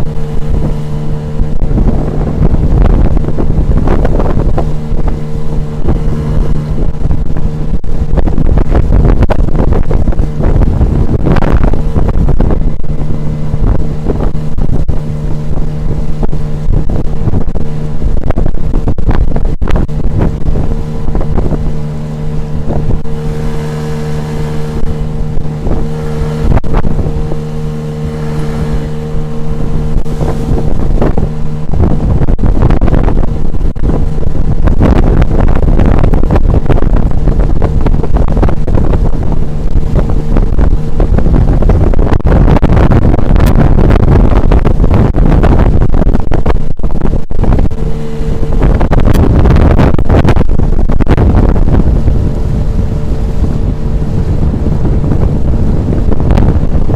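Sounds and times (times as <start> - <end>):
hull slapping water: 0.0 - 56.9
outboard motor running: 0.0 - 56.9
wind buffeting microphone: 0.0 - 56.9.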